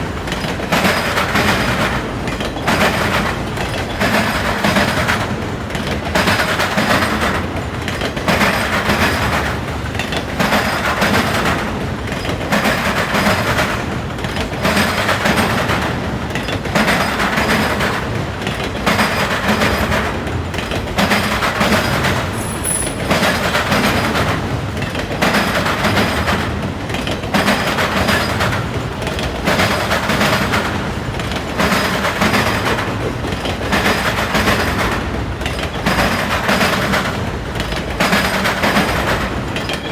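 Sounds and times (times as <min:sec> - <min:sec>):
train wheels clattering over crossing: 0:00.0 - 0:39.9.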